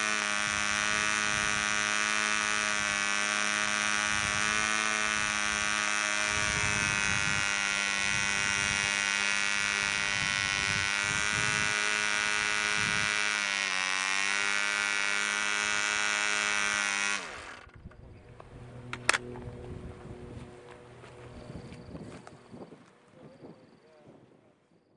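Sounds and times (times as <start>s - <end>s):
model engine running high pitched: 0.0s - 22.7s.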